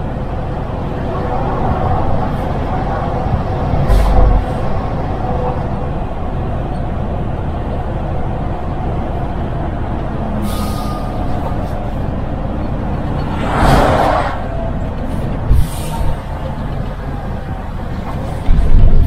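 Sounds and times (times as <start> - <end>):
road rumble: 0.0 - 19.0.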